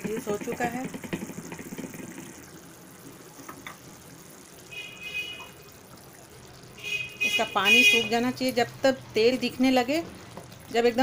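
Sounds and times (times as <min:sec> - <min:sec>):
paste bubbling in frying pan: 0:00.0 - 0:11.0.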